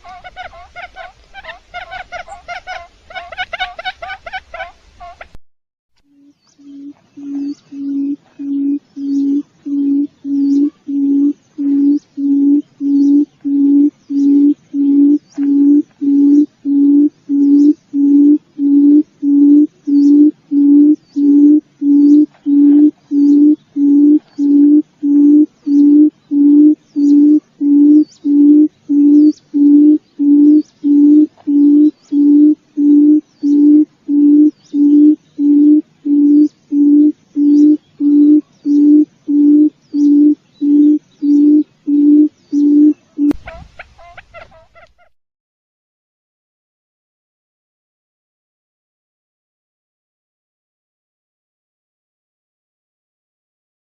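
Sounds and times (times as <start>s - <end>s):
quail hooting: 0.0s - 5.4s, 6.2s - 45.2s.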